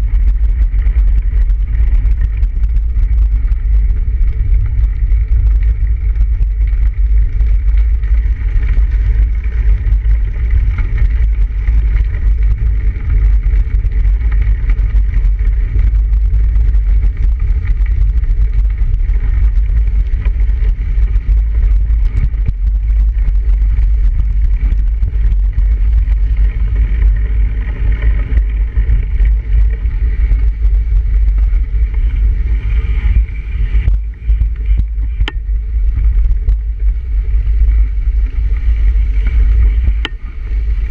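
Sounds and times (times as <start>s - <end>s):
tyres on snowy road: 0.0s - 40.9s
wind buffeting microphone: 0.0s - 40.9s.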